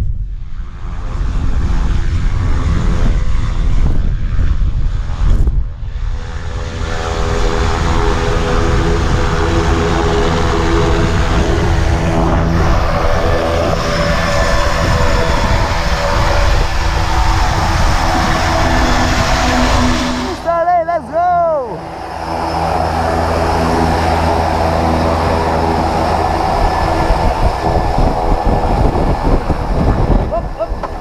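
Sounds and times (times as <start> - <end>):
wind buffeting microphone: 0.0 - 20.6, 21.7 - 31.0
propeller aircraft engine droning: 0.0 - 31.0.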